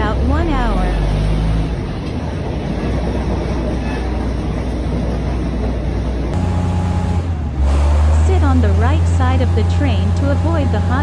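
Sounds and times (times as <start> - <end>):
train rumble and rattle: 0.0 - 11.0.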